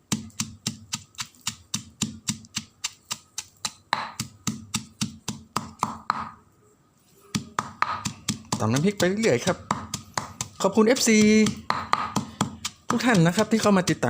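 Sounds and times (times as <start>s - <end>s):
pestle pounding in mortar: 0.0s - 6.4s, 7.3s - 14.0s.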